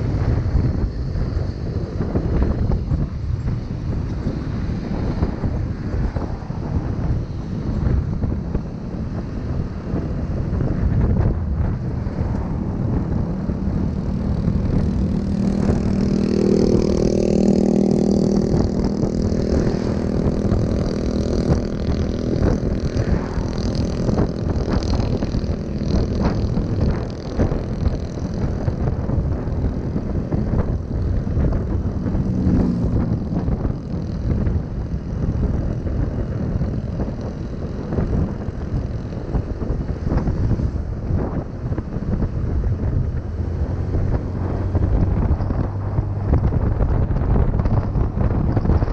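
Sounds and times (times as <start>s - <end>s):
motorbike engine running: 0.0s - 48.9s
wind buffeting microphone: 0.0s - 48.9s.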